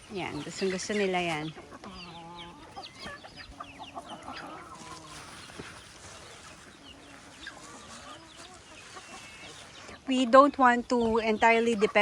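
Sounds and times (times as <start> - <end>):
hens clucking and chirping: 0.0 - 12.0.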